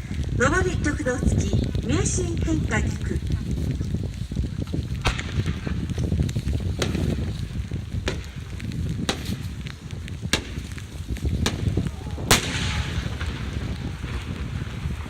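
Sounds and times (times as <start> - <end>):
firework bangs: 0.0 - 15.0
low rumble: 0.0 - 15.0.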